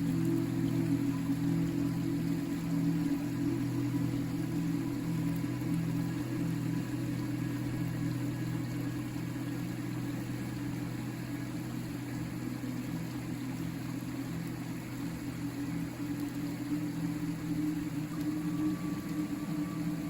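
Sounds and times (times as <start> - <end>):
river flowing: 0.0 - 20.0.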